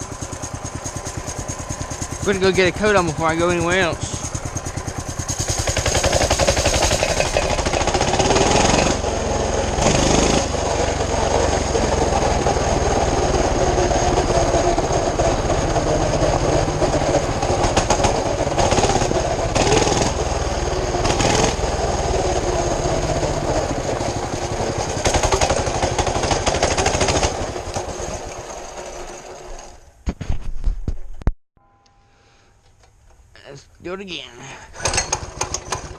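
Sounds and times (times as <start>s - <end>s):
small engine running: 0.0s - 29.9s, 34.8s - 35.9s.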